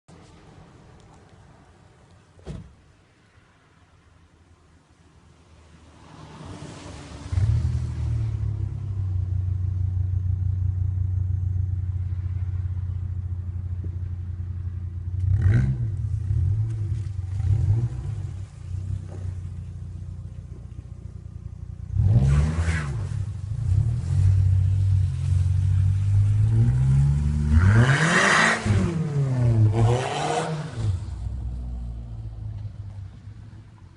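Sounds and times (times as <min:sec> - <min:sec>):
car engine idling and revving: 0:05.4 - 0:33.9.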